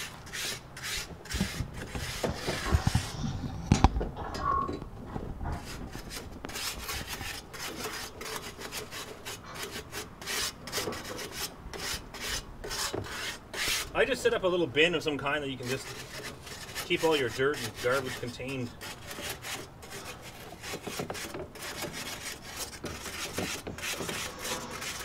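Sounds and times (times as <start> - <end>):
grill grate being scrubbed: 0.0 - 3.7, 5.5 - 25.0.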